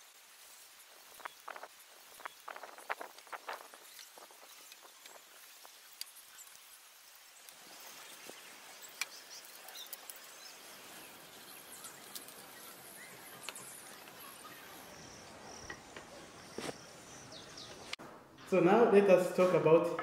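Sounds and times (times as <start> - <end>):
insects chirping: 0.2 - 17.9
birds chirping: 1.1 - 18.0.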